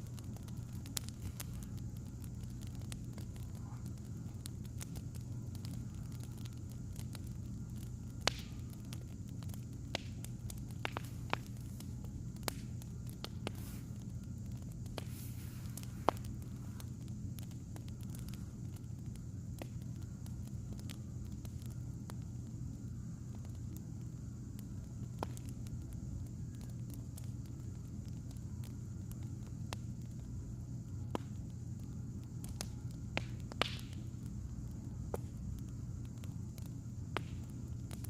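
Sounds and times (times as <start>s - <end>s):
fire popping: 0.0s - 38.0s
firewood crackling: 0.0s - 38.0s
low hum: 0.0s - 38.0s.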